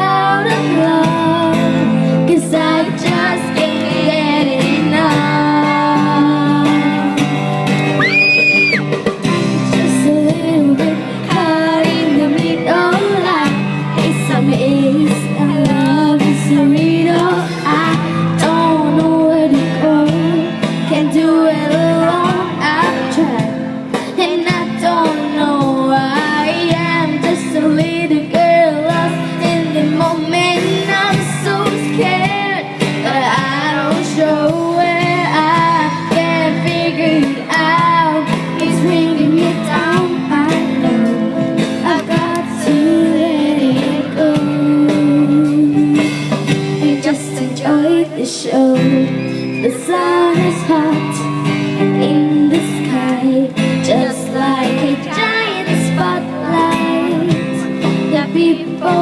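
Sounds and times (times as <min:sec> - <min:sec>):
woman singing: 0:00.0 - 0:07.4, 0:08.0 - 0:59.0
band accompaniment: 0:00.0 - 0:59.0.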